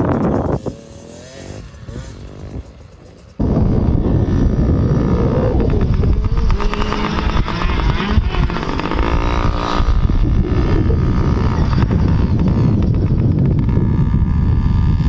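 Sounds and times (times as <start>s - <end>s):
dirt bike two-stroke engine: 0.0s - 15.0s.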